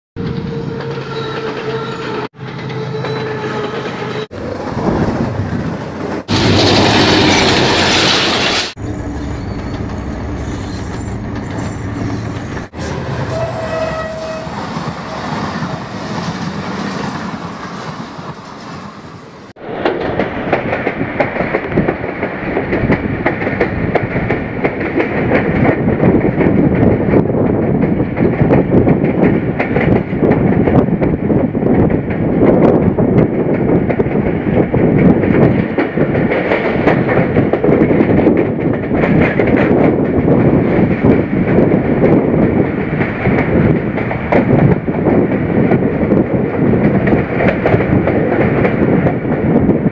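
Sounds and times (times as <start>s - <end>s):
trains rolling past: 0.2s - 49.9s.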